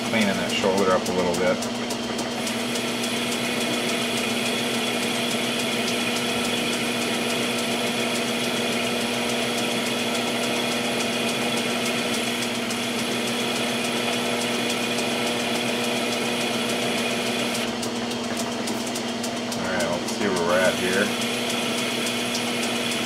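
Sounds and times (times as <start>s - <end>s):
metal lathe cutting: 0.0s - 23.0s.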